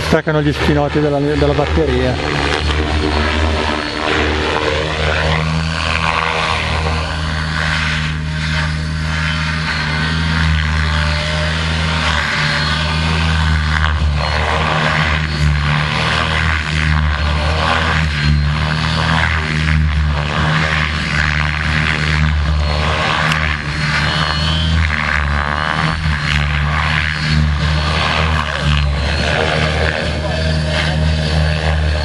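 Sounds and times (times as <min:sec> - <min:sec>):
electric motor and gears whining: 0:00.0 - 0:32.0
rotor blades humming: 0:00.0 - 0:32.0.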